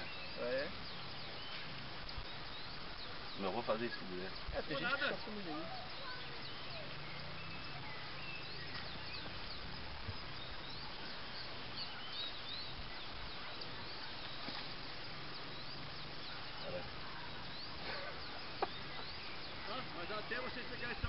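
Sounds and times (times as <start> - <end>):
birds chirping: 0.0 - 21.0
outdoor background hiss: 0.0 - 21.0.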